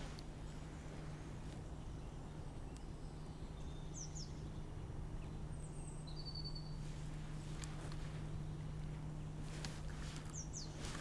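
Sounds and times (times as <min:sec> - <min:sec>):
faint bird chirps: 0:00.0 - 0:11.0
steady low hum: 0:00.0 - 0:11.0.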